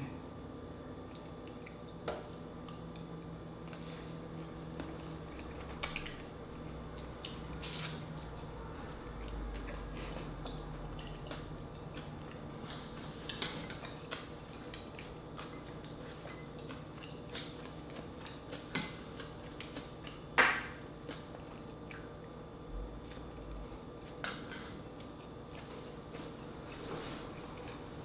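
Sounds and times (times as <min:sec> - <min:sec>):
chewing food: 0:01.0 - 0:28.0.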